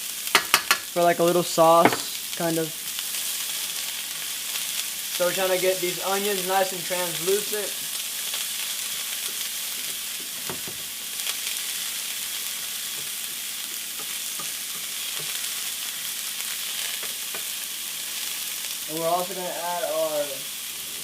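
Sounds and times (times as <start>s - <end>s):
onions sizzling in oil: 0.0s - 21.0s.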